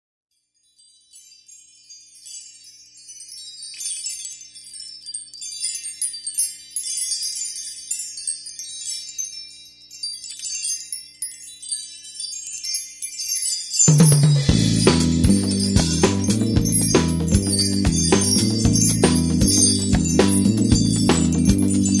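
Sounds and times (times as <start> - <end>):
small metal chimes tinkling: 0.3 - 22.0.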